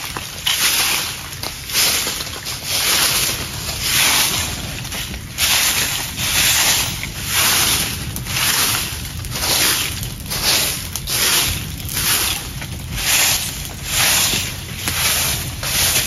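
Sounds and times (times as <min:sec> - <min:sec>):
broom sweeping leaves: 0:00.5 - 0:16.0.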